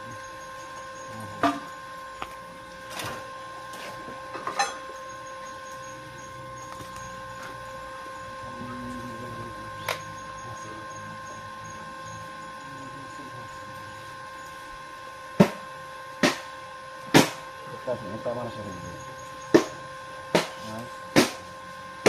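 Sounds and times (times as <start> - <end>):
electrical machine whine: 0.0 - 22.0.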